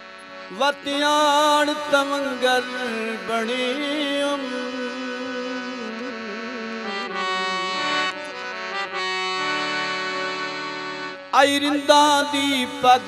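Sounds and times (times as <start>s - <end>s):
harmonium playing: 0.0s - 13.0s.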